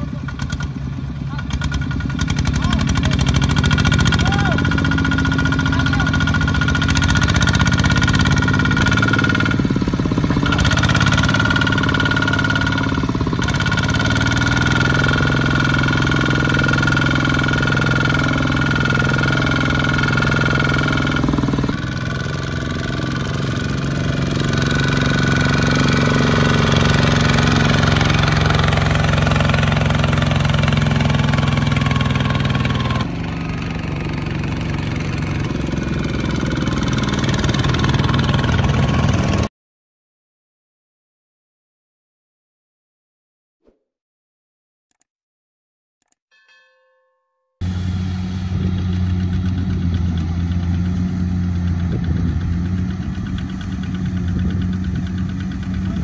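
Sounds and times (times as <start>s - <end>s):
diesel tractor engines running: 0.0s - 39.5s, 47.6s - 56.0s.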